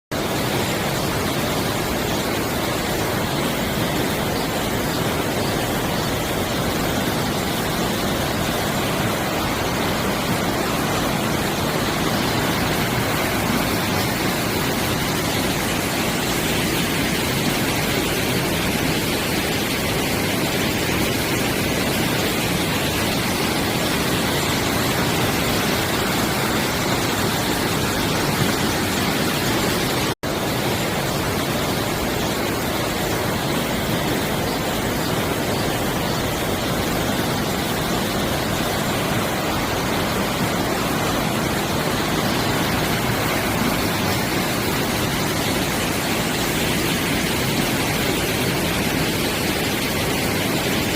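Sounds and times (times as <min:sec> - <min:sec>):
stream water rushing: 0:00.1 - 0:50.9.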